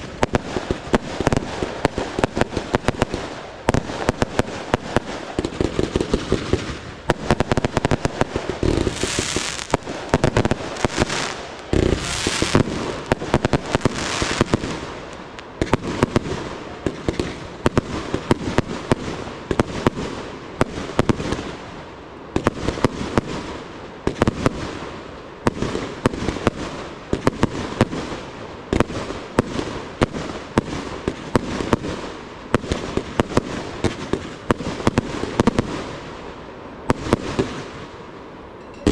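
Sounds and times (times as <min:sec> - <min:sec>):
hissing firework fountains: 0:00.0 - 0:38.9.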